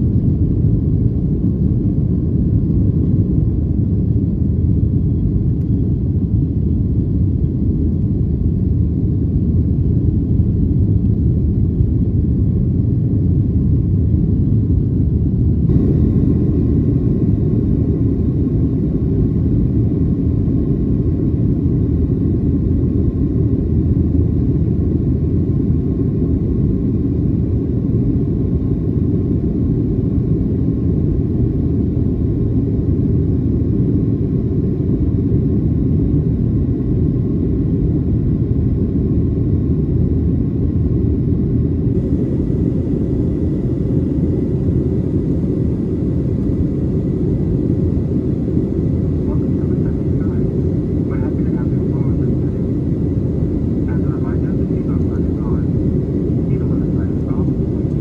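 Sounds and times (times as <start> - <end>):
faint steady whine: 0.0 - 58.0
jet engine roar in cabin: 0.0 - 58.0.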